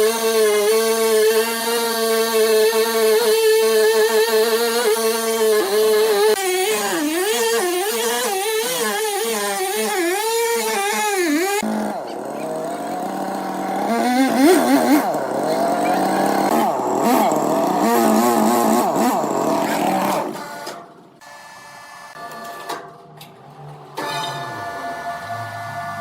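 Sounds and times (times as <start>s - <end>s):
sawmill machinery running: 0.0s - 21.4s.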